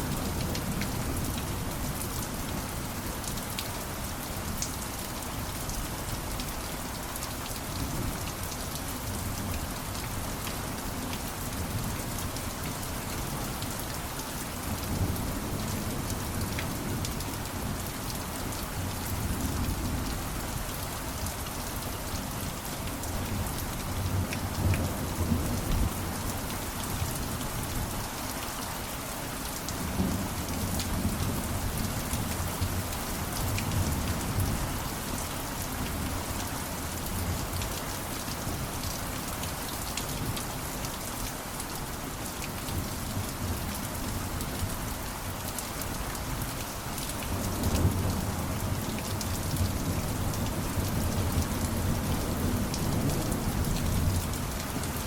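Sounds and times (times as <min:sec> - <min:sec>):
steady dense rainfall: 0:00.0 - 0:55.0.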